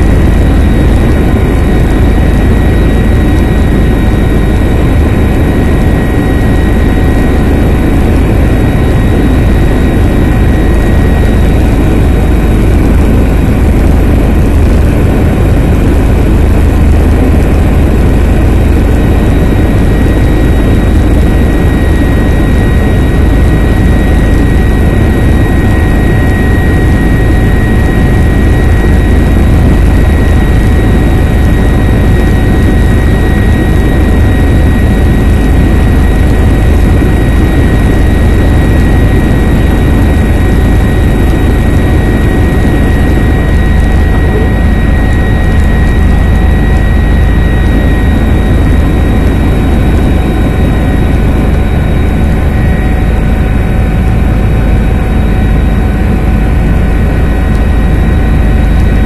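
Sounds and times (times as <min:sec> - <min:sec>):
helicopter rotor and engine drone: 0:00.0 - 0:59.0
high turbine whine: 0:00.0 - 0:59.0.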